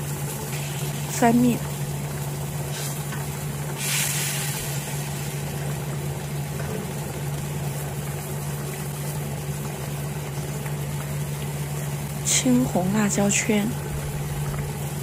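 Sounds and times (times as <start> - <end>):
low machine hum: 0.0 - 15.0
sauce simmering in a wok: 0.0 - 15.0.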